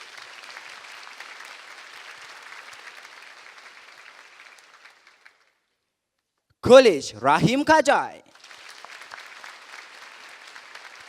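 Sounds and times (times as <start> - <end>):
audience applauding: 0.0 - 5.7, 6.7 - 11.0.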